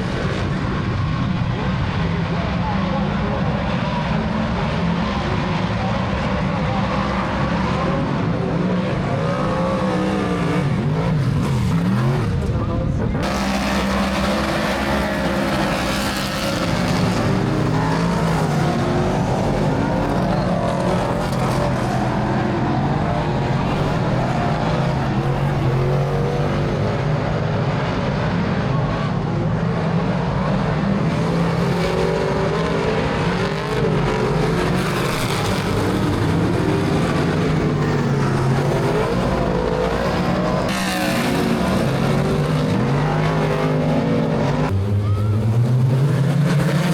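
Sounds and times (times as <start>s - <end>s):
race car engines revving: 0.0s - 46.9s.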